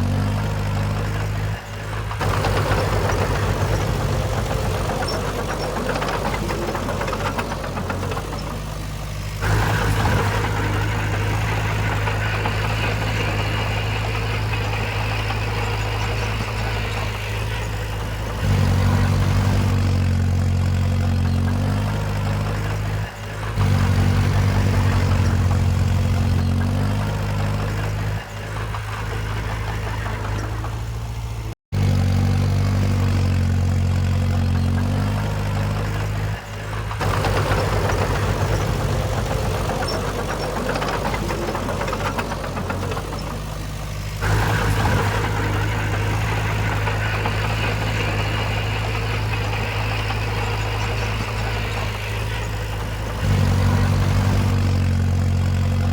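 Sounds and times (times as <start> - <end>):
heavy diesel engines droning: 0.0 - 55.9.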